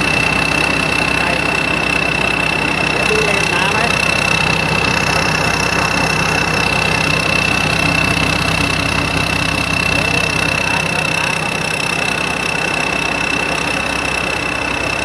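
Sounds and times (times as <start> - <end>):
diesel engine running: 0.0 - 15.0
high-pitched whine: 0.0 - 15.0.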